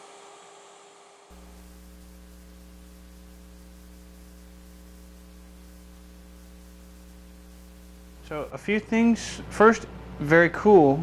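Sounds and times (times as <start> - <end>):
faint hiss: 0.0 - 9.8
electrical mains hum: 0.0 - 11.0.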